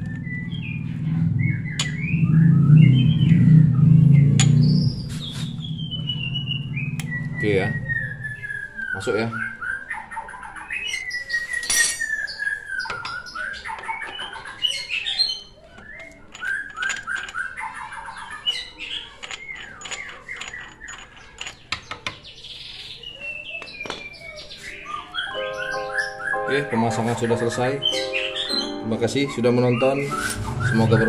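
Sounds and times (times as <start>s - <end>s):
songbirds chirping and whistling: 0.0s - 31.0s.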